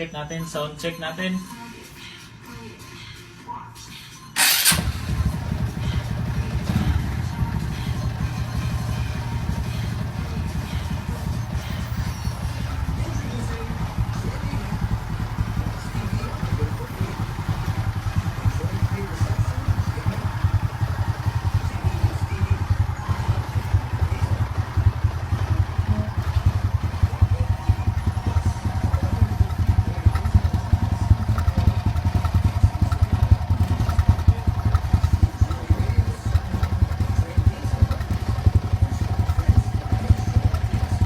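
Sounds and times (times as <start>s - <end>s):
motorcycle engine idling: 4.4s - 41.0s.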